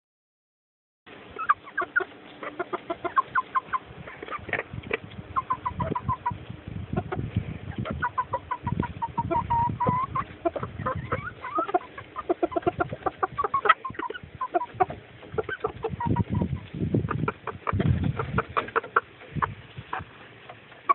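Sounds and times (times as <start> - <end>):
chickens clucking: 1.1 - 20.9.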